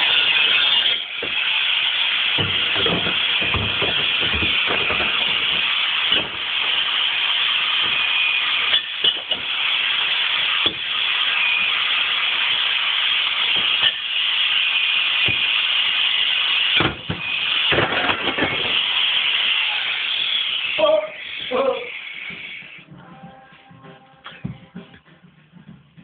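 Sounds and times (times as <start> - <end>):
power tool cutting sheet metal: 0.0 - 22.8.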